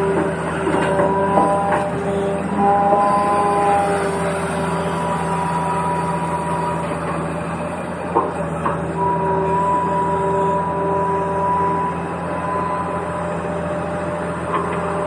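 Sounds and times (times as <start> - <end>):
mechanical hum with held tones: 0.0 - 15.0.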